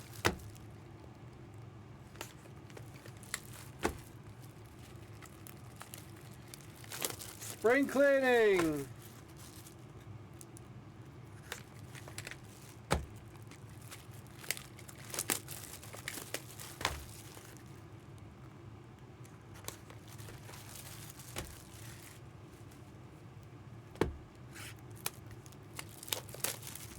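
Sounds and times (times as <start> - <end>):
wrappers crinkling and tearing: 0.0 - 0.8, 2.0 - 10.7, 11.3 - 17.9, 19.5 - 22.9, 24.4 - 26.9.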